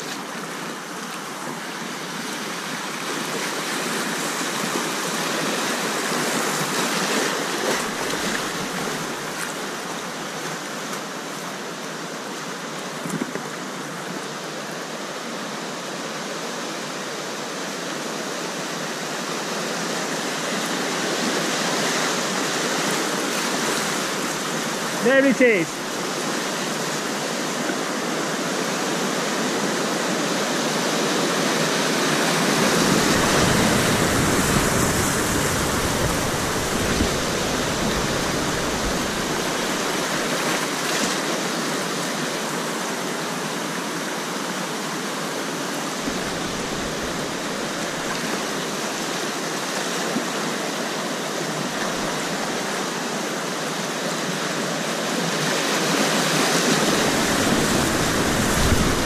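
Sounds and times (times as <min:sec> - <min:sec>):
whitewater rapids rushing: 0:00.0 - 0:59.0.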